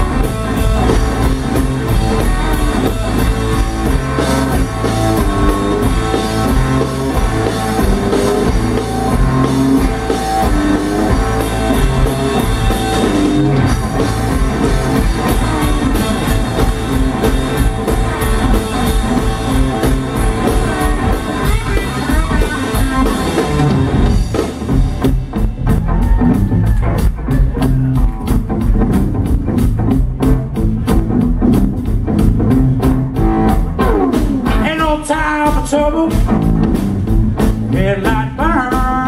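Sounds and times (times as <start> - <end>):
drum kit beat: 0.0 - 39.0
electric bass: 0.0 - 39.0
electric guitar: 0.0 - 39.0.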